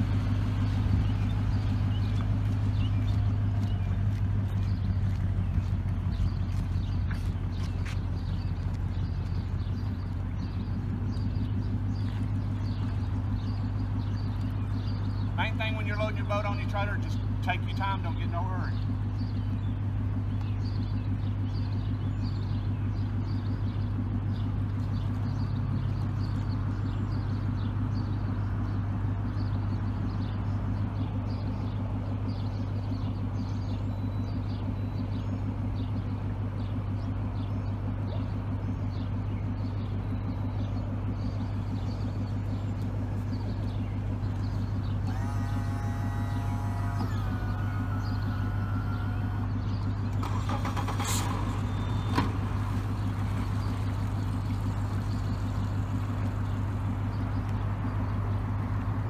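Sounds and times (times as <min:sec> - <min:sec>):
outboard motor idling: 0:00.0 - 0:59.0.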